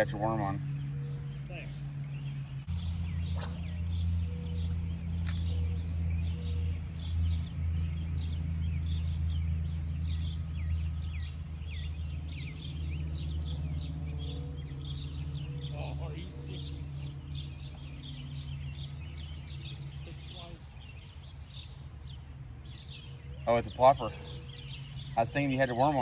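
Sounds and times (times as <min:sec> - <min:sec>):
steady low rumble: 0:00.0 - 0:25.8
small birds chirping: 0:00.0 - 0:26.0.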